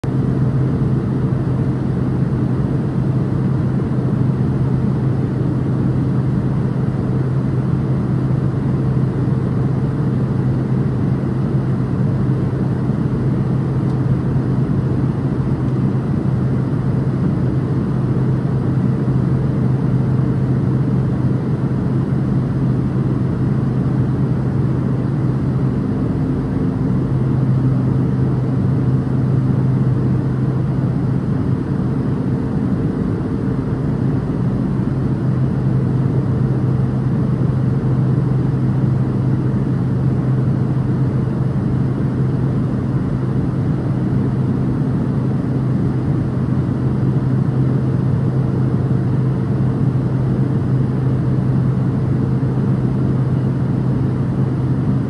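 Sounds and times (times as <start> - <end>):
turboprop cabin drone: 0.0 - 55.0.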